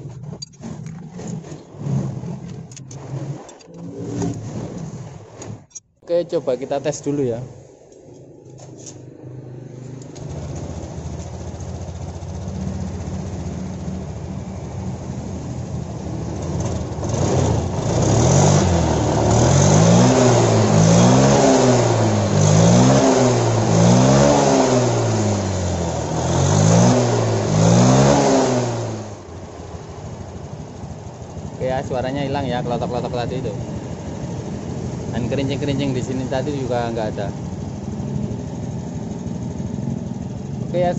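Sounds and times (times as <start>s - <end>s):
scooter engine revving: 0.0s - 40.9s.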